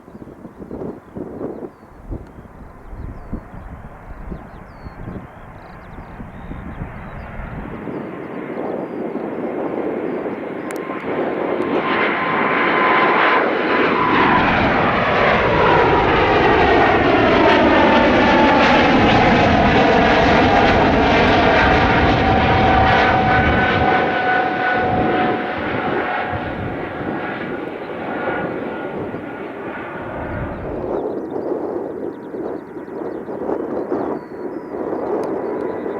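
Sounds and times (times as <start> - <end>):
jet airliner engines passing by: 0.0 - 35.9
whining jet engine tone: 0.0 - 35.9.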